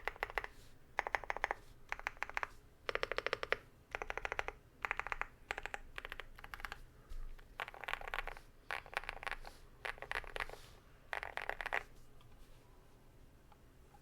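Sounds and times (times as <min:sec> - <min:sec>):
mechanical keyboard typing: 0:00.0 - 0:06.8, 0:07.4 - 0:11.8.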